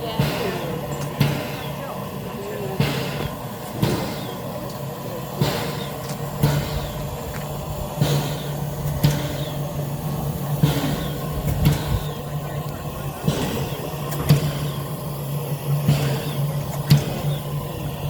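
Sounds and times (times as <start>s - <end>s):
steam locomotive moving slowly: 0.0s - 18.0s.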